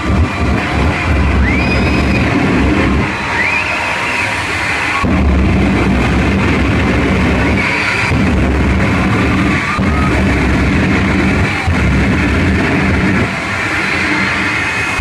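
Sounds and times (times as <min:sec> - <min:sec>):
loud rock music: 0:00.0 - 0:03.7, 0:04.6 - 0:15.0.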